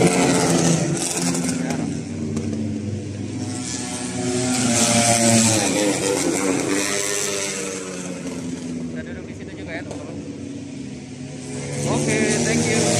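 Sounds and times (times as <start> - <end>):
racing motorcycles passing: 0.0 - 12.9.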